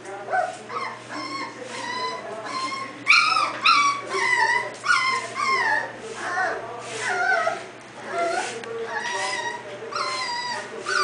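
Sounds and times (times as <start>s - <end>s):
puppies whimpering and yipping: 0.3s - 11.0s.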